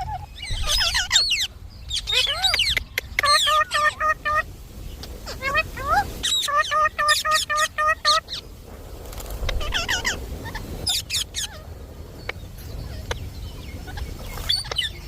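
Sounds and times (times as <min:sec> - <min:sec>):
parakeet calling: 0:00.0 - 0:08.5, 0:09.4 - 0:15.0.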